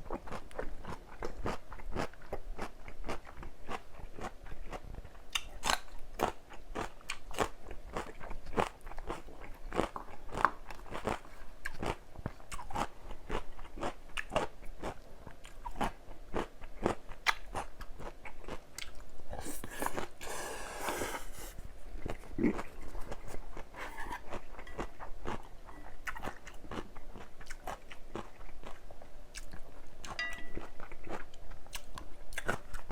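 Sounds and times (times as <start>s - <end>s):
chewing crisp food: 0.0s - 32.9s.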